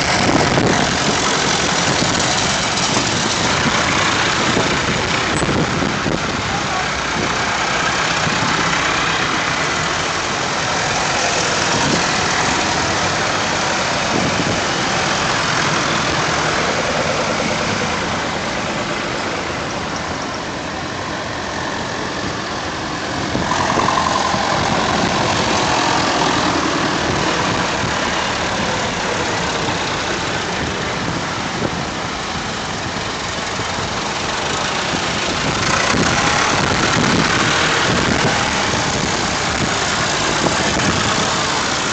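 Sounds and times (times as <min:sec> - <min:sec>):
tractor engines running: 0:00.0 - 0:41.9.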